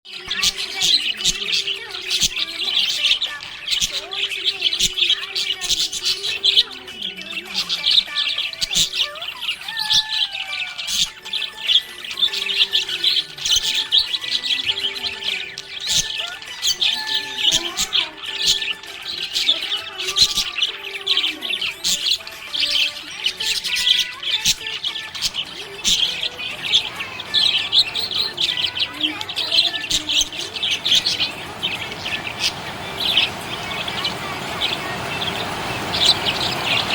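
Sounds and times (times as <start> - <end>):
budgerigar chirping and chattering: 0.0 - 36.9.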